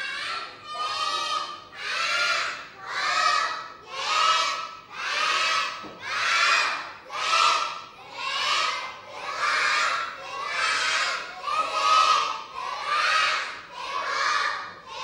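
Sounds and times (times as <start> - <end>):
children counting in unison: 0.0 - 15.0.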